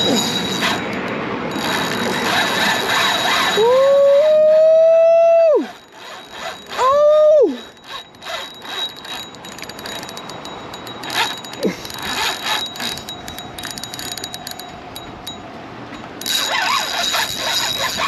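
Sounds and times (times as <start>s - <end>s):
fishing reel clicking and whirring: 0.0s - 15.4s, 16.0s - 18.0s.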